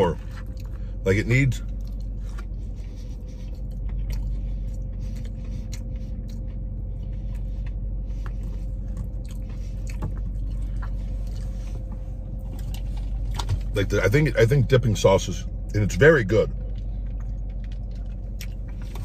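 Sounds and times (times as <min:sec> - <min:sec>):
steady low hum: 0:00.0 - 0:19.0
man chewing: 0:00.1 - 0:01.0, 0:01.6 - 0:13.6, 0:16.6 - 0:19.0.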